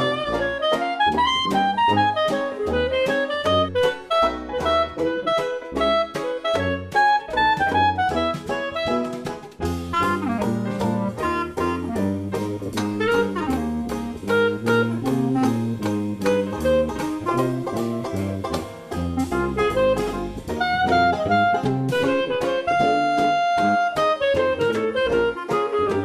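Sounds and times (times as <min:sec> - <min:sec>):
dixieland jazz with horns: 0:00.0 - 0:26.0.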